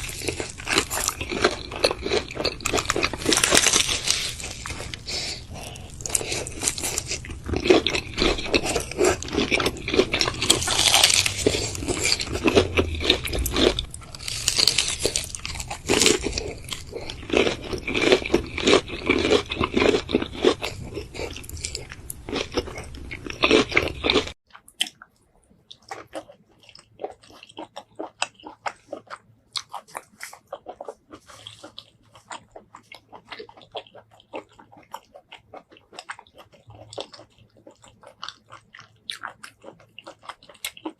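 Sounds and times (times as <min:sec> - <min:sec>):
crunchy bites and chewing: 0:00.0 - 0:25.0, 0:25.7 - 0:40.9.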